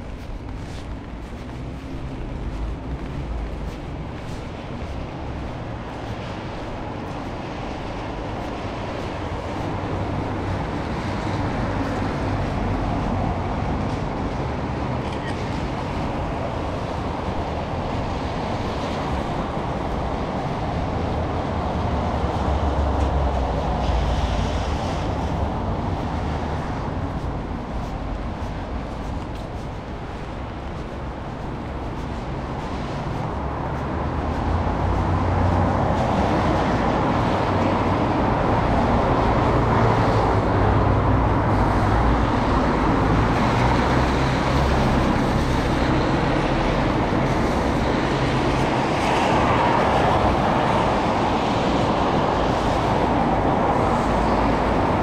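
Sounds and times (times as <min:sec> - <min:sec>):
subway train rumbling: 0:00.0 - 0:55.0.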